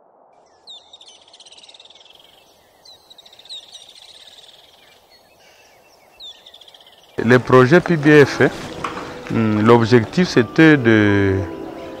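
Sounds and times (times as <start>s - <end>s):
songbird singing: 0.3s - 12.0s.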